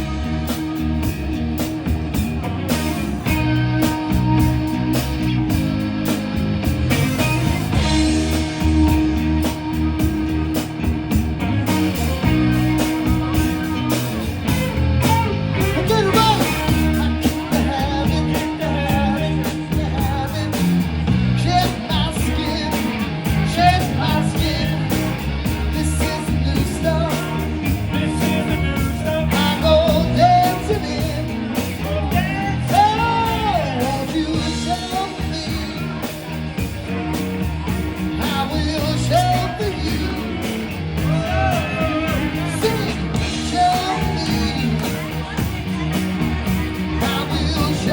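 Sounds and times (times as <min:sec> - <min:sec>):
rock band playing: 0:00.0 - 0:47.9
person singing: 0:07.0 - 0:47.9.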